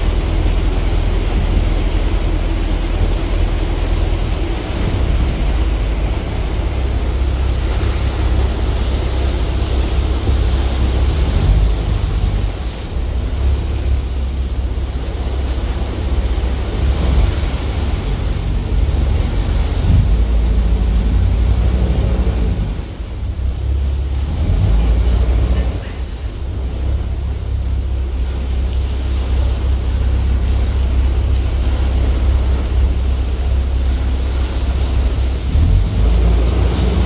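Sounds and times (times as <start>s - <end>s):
rushing water: 0.0s - 37.0s
wind rumbling on microphone: 0.0s - 37.0s.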